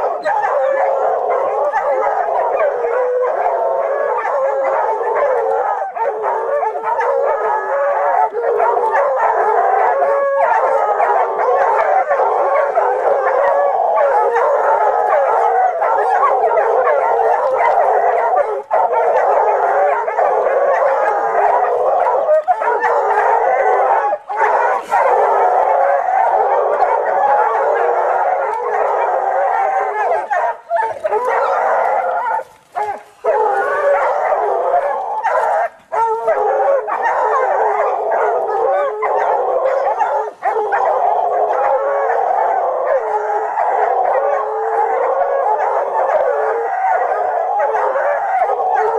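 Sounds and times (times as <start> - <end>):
hounds baying and barking: 0.0 - 48.9.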